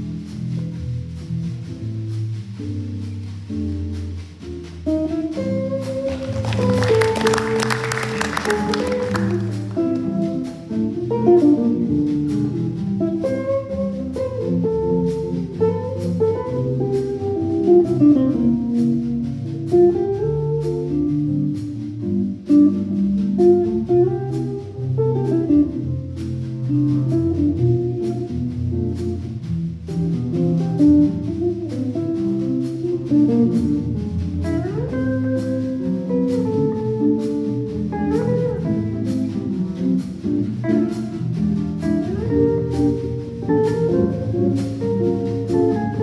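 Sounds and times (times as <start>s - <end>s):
drums with cymbal ticks: 0.0s - 6.8s, 8.3s - 46.0s
double bass: 0.0s - 46.0s
jazz guitars: 0.0s - 46.0s.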